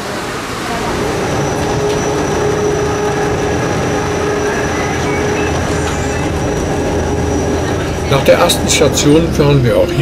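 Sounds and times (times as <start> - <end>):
train running on track: 0.0 - 10.0
faint high whine: 0.6 - 10.0.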